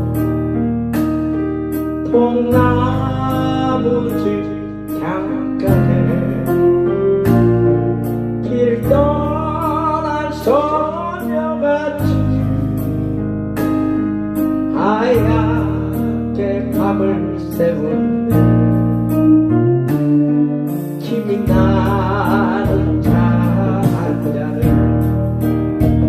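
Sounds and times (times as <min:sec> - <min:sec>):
ballad over backing track: 0:00.0 - 0:26.0
lead melody with vibrato: 0:00.0 - 0:26.0.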